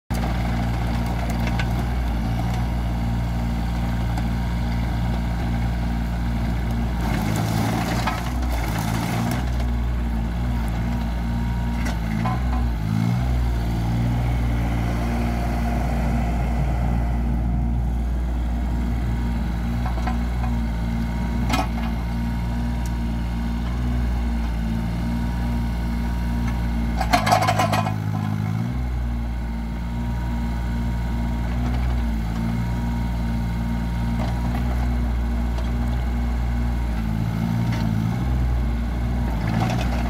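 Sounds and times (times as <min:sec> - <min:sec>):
diesel engine running: 0:00.1 - 0:40.0.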